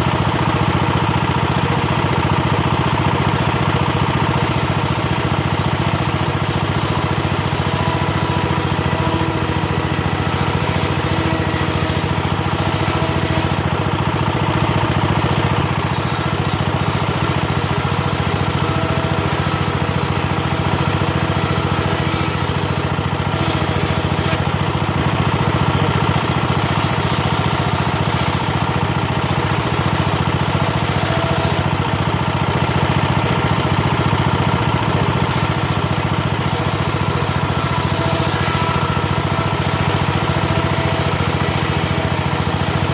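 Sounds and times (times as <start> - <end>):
engine hum: 0.0 - 42.9
saw blade cutting wood: 0.0 - 42.9.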